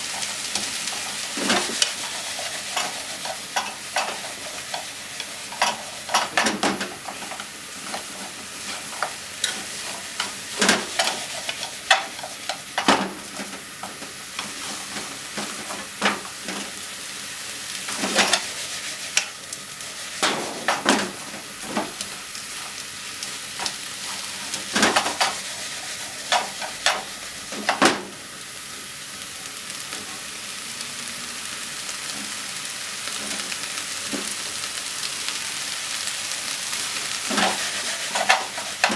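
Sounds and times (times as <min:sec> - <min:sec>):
food sizzling in a frying pan: 0:00.0 - 0:38.9.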